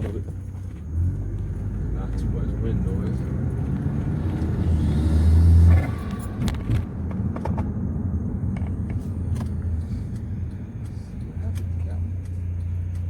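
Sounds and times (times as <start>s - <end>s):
car engine exhaust drone: 0.0s - 13.0s.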